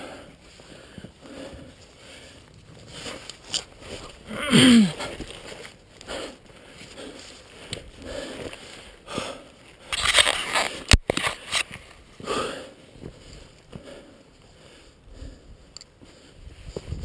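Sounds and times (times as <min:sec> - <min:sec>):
person breathing hard: 0:00.0 - 0:03.2, 0:04.0 - 0:09.9, 0:12.2 - 0:16.6.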